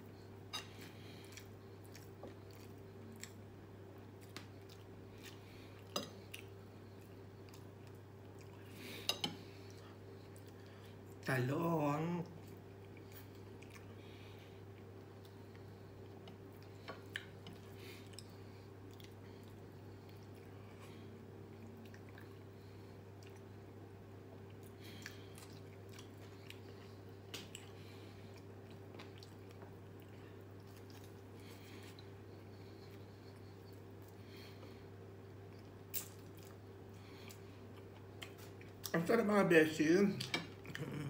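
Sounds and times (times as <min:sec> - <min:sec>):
steady low hum: 0:00.0 - 0:41.0
person chewing: 0:00.4 - 0:11.2, 0:12.3 - 0:23.6, 0:24.4 - 0:38.9.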